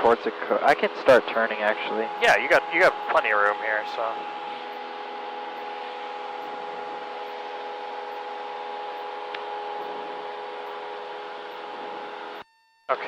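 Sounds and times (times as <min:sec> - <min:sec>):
aircraft engine and propeller drone: 0:00.0 - 0:12.4.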